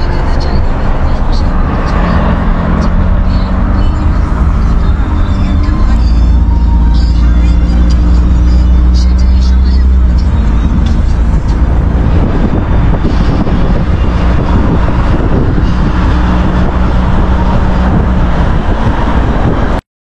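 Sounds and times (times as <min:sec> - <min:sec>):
car engine and road rumble: 0:00.0 - 0:19.8.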